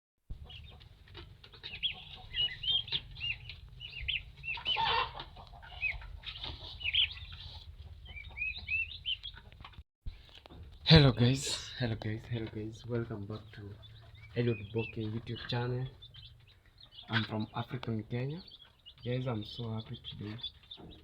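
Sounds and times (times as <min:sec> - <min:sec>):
chicks peeping: 0:00.3 - 0:21.0.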